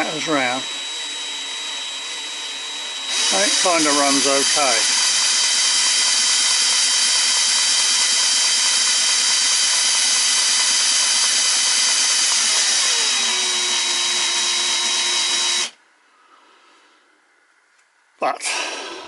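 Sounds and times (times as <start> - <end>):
cordless drill whining: 0.0 - 15.8.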